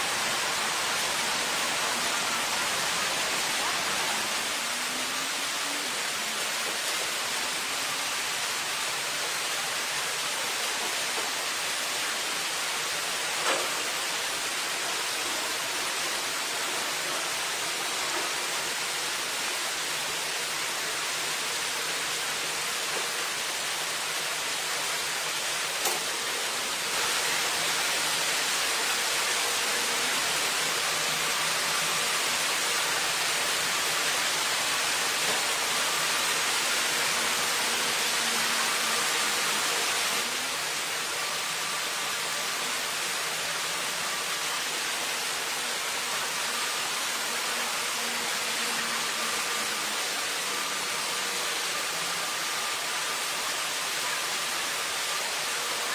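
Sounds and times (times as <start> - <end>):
river water rushing over rapids: 0.0 - 55.9.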